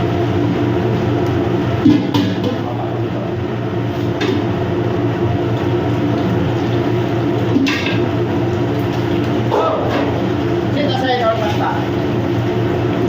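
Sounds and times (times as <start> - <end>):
low machinery drone: 0.0 - 13.0.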